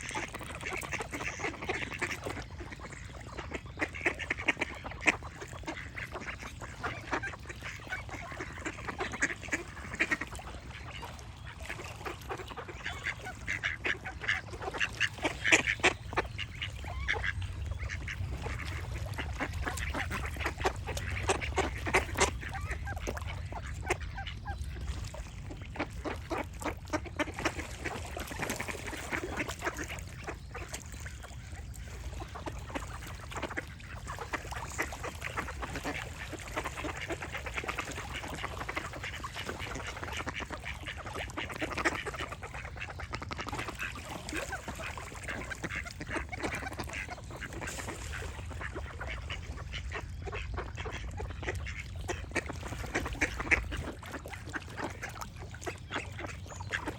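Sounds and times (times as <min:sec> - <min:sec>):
ducks quacking: 0:00.0 - 0:56.9.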